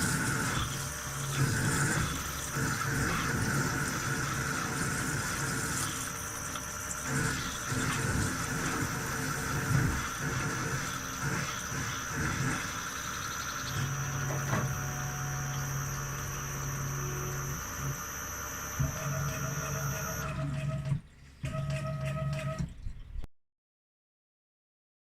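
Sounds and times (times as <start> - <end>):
milling machine whine: 0.0 - 22.7
low hum of machine axes: 0.0 - 23.2.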